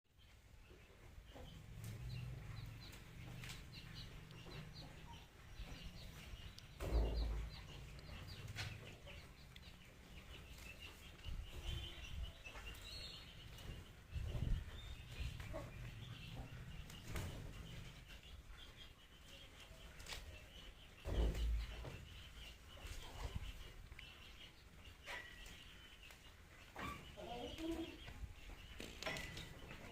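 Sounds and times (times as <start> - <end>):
small birds chirping: 0.1 - 29.9.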